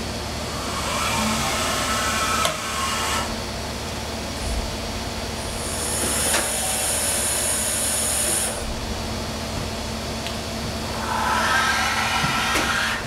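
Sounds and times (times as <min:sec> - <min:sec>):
machining center humming: 0:00.0 - 0:13.0.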